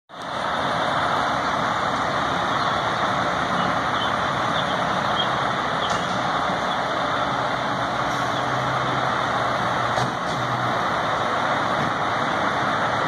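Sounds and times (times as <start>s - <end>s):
diesel engine running: 0.1s - 13.0s
road noise: 0.1s - 13.0s.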